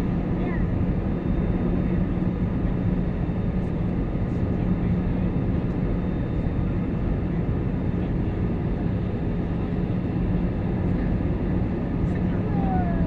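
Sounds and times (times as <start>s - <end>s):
airliner cabin engine rush: 0.0s - 13.0s
constant low hum: 0.0s - 13.0s.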